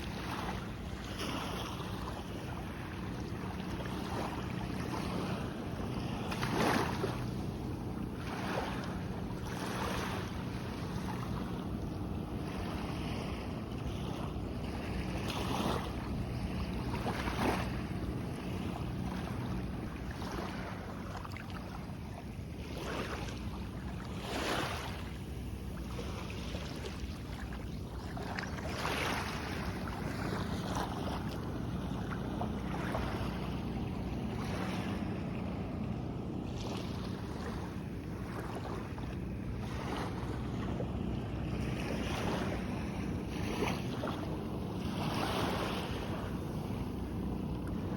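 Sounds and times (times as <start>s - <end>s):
small waves washing on sand: 0.0s - 47.9s
steady low hum: 0.0s - 47.9s.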